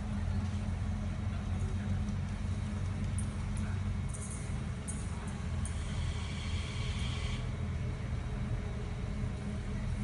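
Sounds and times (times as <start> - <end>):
distant train rumble: 0.0 - 10.0.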